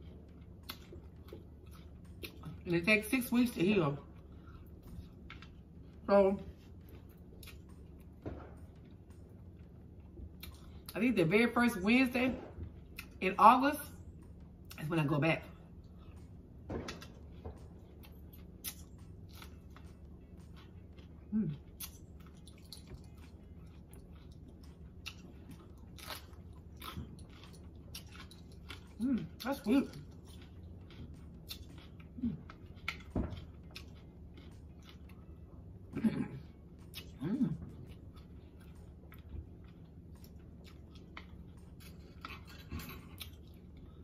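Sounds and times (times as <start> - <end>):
crunching and chewing pepper: 0.0 - 11.0, 15.5 - 44.0.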